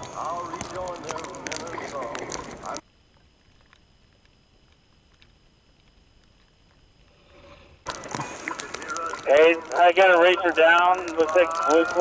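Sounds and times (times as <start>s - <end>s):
faint clicks: 0.0s - 7.2s, 7.8s - 12.0s
faint steady hiss: 0.0s - 12.0s.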